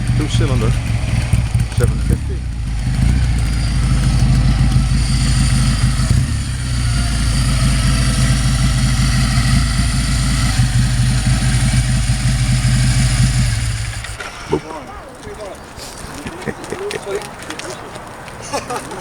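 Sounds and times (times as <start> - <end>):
motorcycle engine idling: 0.0 - 15.7.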